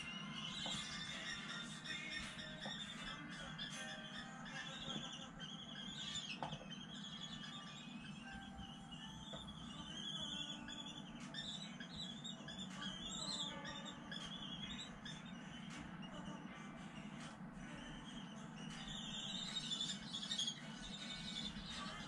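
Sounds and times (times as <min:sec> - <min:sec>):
chicks begging calls: 0:00.0 - 0:22.0
low steady hum: 0:00.0 - 0:22.0.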